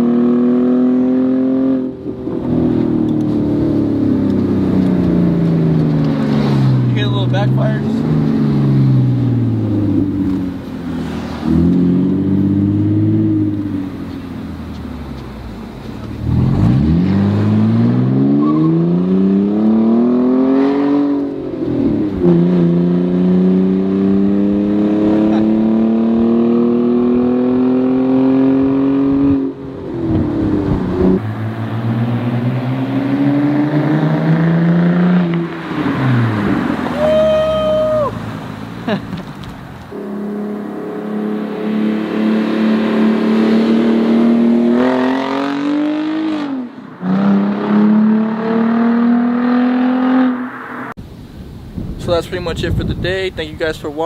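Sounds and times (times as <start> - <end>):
loud car engine accelerating: 0.0 - 51.0.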